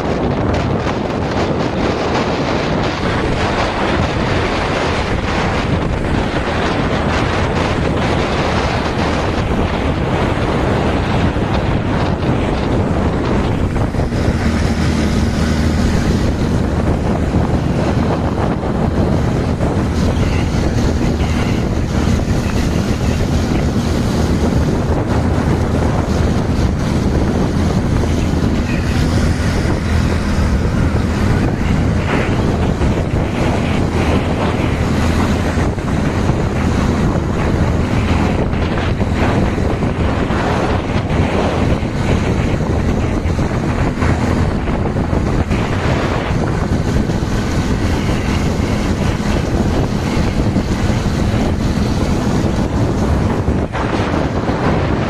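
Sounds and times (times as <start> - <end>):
motorcycle engine hum: 0.0 - 55.0
wind buffeting microphone: 0.0 - 55.0.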